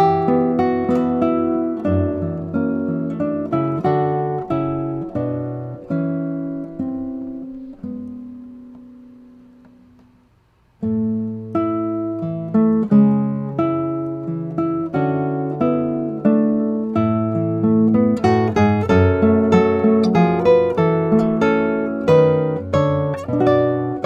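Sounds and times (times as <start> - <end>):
classical guitar playing: 0.0 - 24.0.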